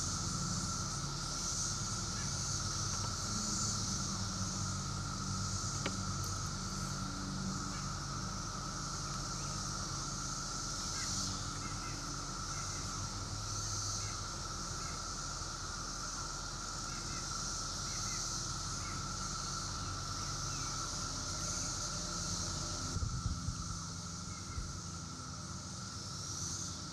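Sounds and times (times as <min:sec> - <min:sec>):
cicada chorus drone: 0:00.0 - 0:26.9
low steady whine: 0:00.0 - 0:26.9.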